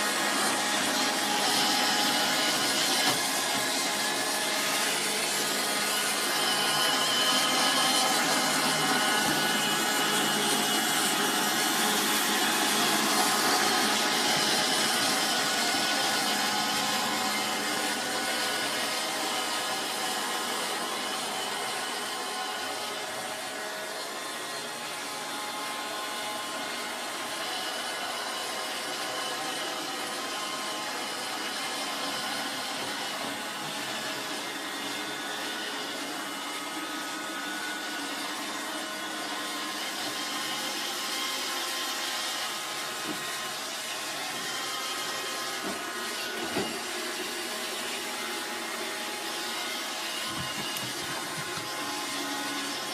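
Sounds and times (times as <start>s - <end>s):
robot vacuum humming on carpet: 0.0s - 52.9s.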